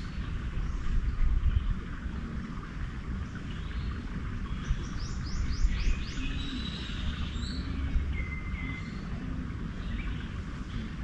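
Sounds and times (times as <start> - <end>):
garden birds chirping: 0.0 - 11.0
steady low rumble: 0.0 - 11.0.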